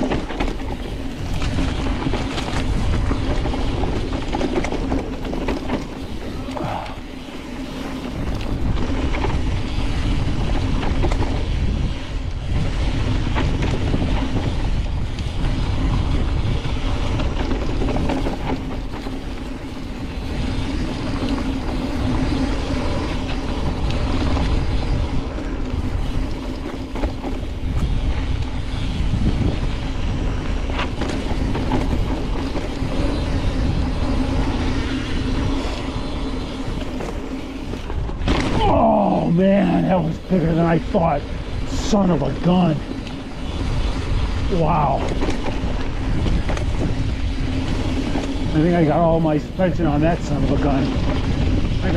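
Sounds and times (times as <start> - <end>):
bike clicks and rattles: 0.0 - 51.9
tyres rolling on dirt: 0.0 - 51.9
wind buffeting microphone: 0.0 - 51.9.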